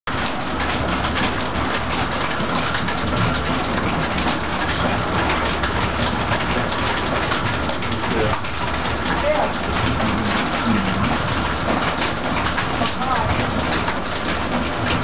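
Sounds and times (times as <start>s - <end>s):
mill wheel rumble: 0.1s - 15.0s
rushing water: 0.1s - 15.0s.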